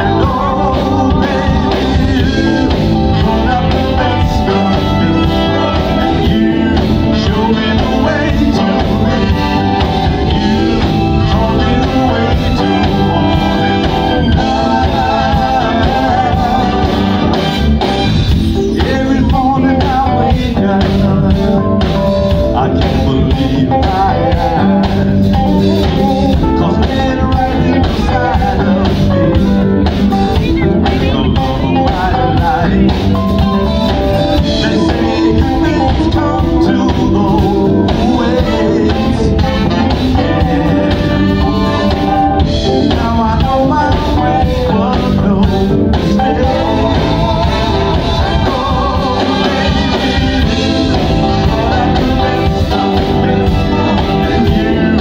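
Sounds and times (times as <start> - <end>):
vocal group singing with band: 0.0 - 55.0.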